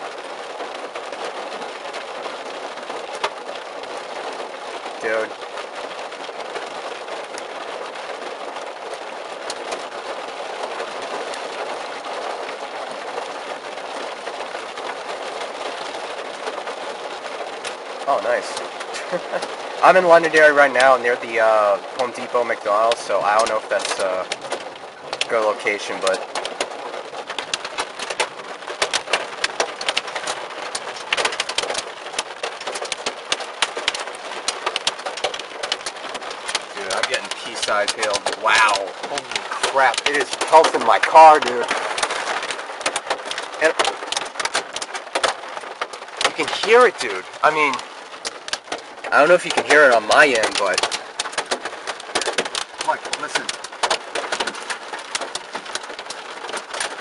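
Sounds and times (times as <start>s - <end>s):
hail and rain pelting a car: 0.0s - 57.0s
hailstone ticks: 0.2s - 57.0s.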